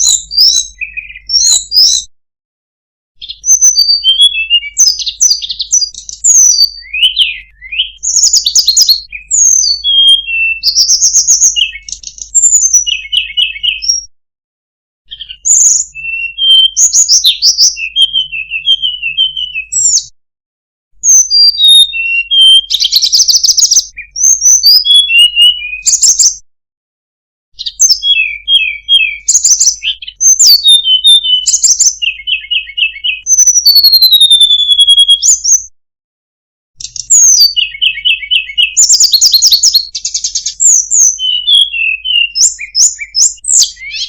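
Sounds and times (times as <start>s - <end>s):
songbird whistles and trills: 0.0s - 2.1s, 3.2s - 14.1s, 15.1s - 20.1s, 21.0s - 26.4s, 27.6s - 35.7s, 36.8s - 44.0s.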